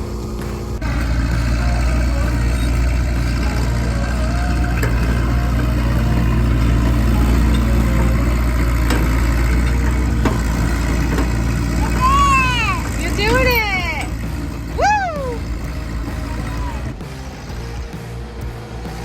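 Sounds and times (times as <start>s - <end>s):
large engine running steadily: 0.0s - 19.0s.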